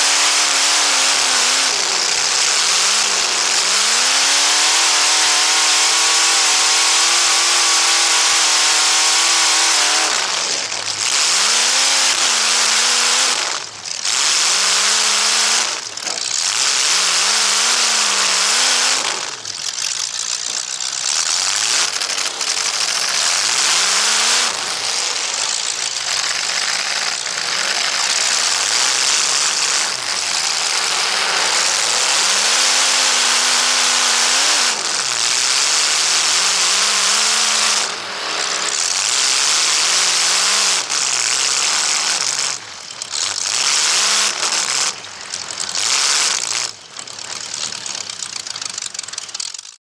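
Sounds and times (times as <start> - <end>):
car engines revving: 0.0 - 49.4.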